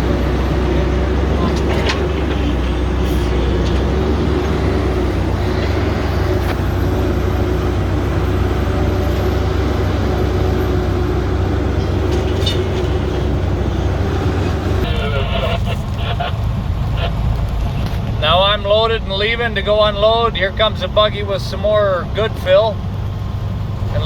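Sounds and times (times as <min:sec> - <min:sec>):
diesel engine drone in cab: 0:00.0 - 0:24.0.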